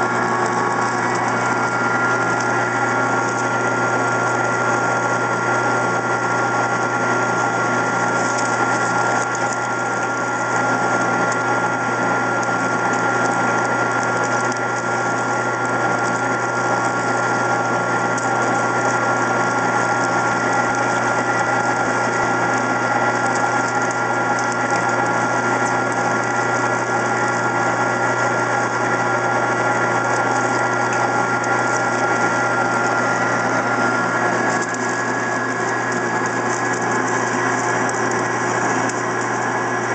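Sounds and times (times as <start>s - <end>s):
metal lathe humming and whining: 0.0s - 39.9s.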